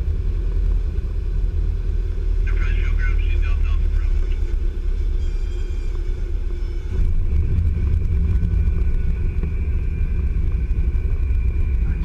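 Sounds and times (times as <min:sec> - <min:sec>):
small plane engine rumble: 0:00.0 - 0:12.0.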